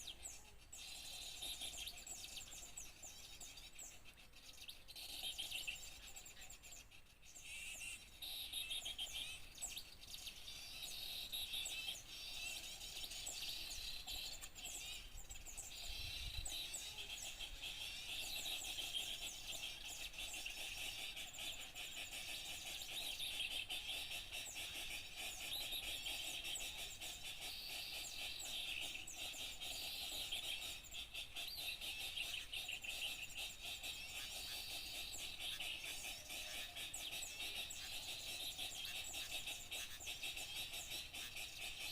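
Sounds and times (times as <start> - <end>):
small songbirds chirping: 0.0 - 41.9.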